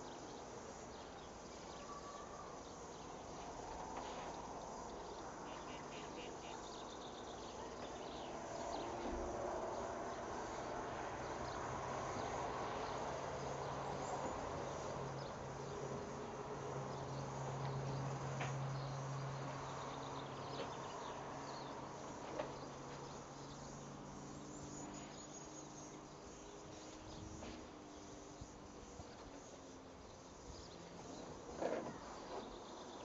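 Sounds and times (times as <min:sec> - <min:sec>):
insects chirping and buzzing: 0:00.0 - 0:33.0.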